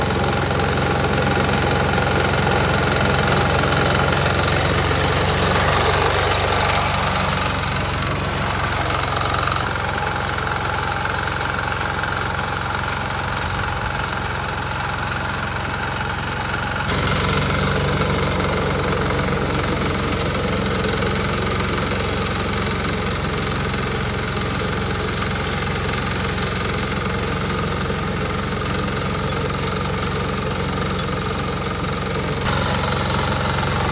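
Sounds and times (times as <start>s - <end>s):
small tiller engine running: 0.0s - 33.9s.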